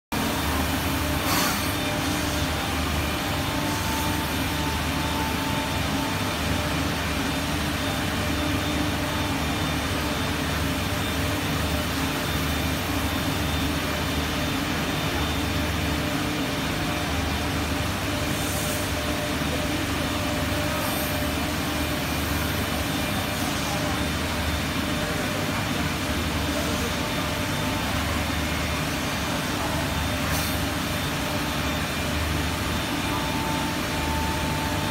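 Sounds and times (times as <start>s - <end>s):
cnc wood router running: 0.2s - 34.9s.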